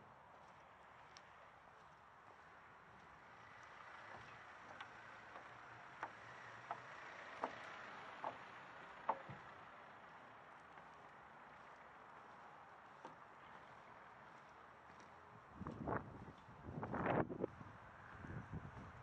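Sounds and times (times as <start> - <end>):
light footsteps: 0.0 - 19.0.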